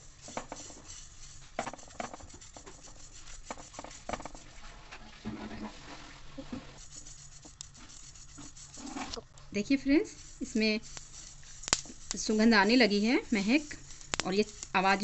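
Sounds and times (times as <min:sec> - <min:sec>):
seeds scraping in metal pan: 0:00.0 - 0:15.0.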